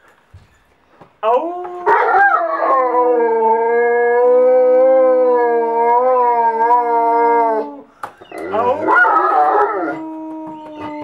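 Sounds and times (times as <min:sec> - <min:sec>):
dog howling: 0:01.6 - 0:11.0.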